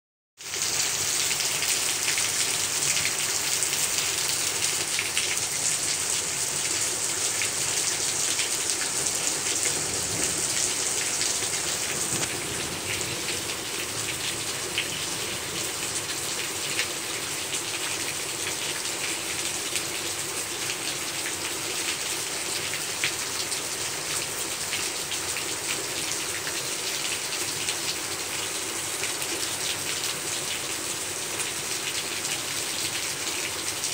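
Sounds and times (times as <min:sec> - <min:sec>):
heavy rain falling: 0:00.4 - 0:33.9
raindrops hitting surfaces: 0:00.4 - 0:33.9.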